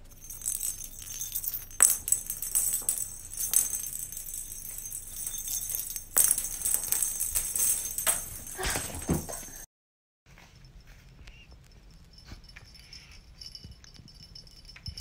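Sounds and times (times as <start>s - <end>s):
cat-toy balls with bells jingling: 0.0s - 9.7s, 10.4s - 15.0s.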